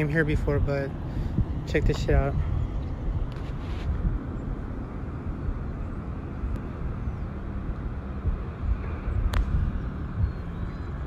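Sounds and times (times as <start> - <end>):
low gusty outdoor rumble: 0.0 - 11.0.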